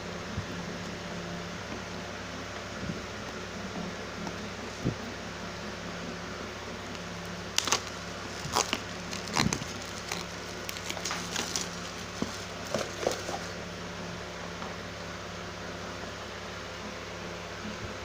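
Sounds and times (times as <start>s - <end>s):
fan-like hum: 0.0s - 18.0s.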